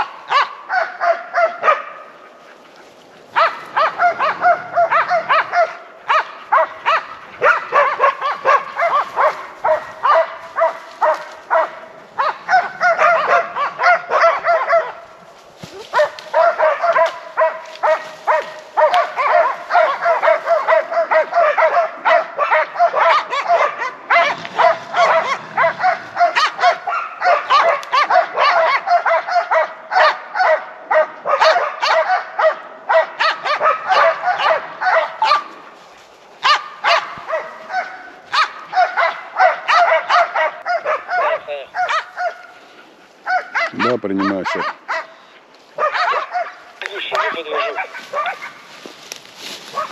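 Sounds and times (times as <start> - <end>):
dogs barking rapidly: 0.0 - 35.8, 36.4 - 49.9.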